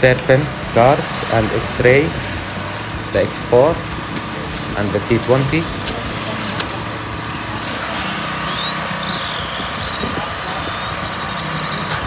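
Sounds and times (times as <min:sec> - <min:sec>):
rc cars whining past: 0:00.0 - 0:12.0.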